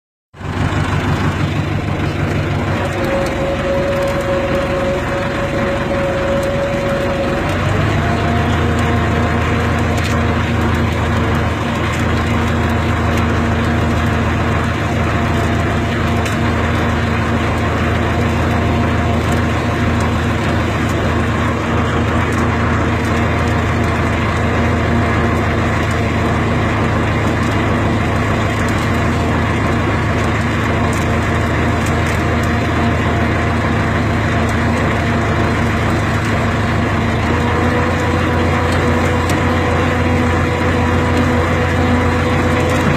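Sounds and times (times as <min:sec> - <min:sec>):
winch engine running: 0:00.4 - 0:42.9.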